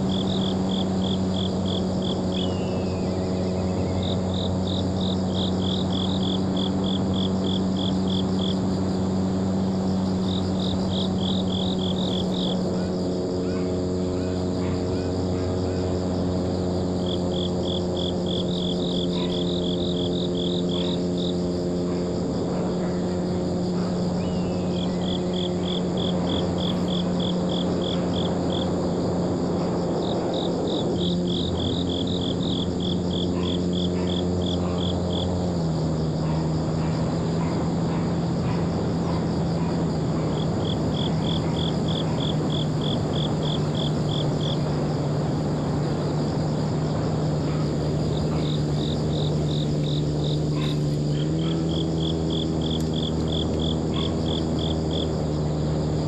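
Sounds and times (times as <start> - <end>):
insects chirping: 0.0 - 56.0
low hum: 0.0 - 56.0.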